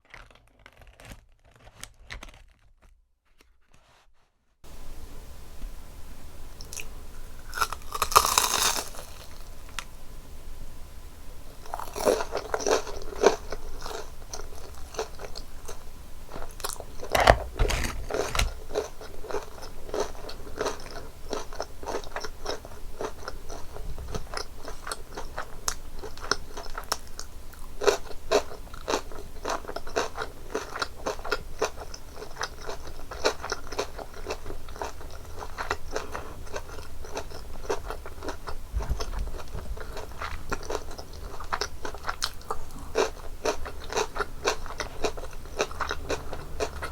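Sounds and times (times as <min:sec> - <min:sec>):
crunching and chewing crispy food: 0:00.0 - 0:04.0, 0:06.5 - 0:09.9, 0:11.6 - 0:46.9.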